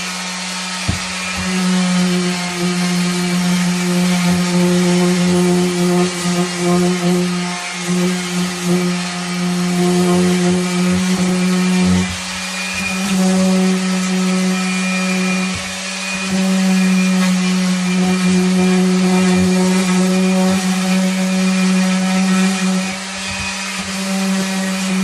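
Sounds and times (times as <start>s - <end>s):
orbital sander on wood: 0.0s - 25.0s.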